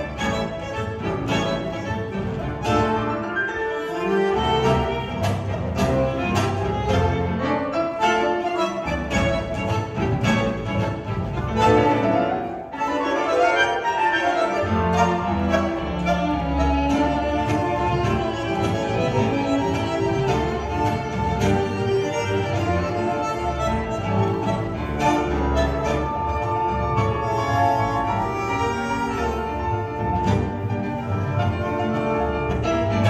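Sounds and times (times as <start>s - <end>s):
tango ensemble playing: 0.0s - 33.0s.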